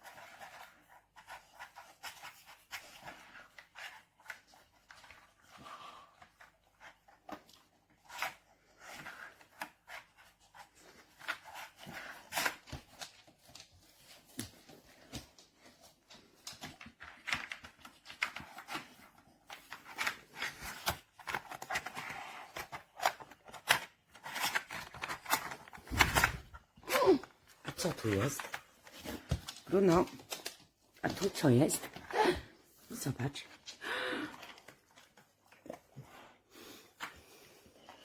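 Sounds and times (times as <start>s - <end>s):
dog working a plastic puzzle toy: 0.0s - 36.4s.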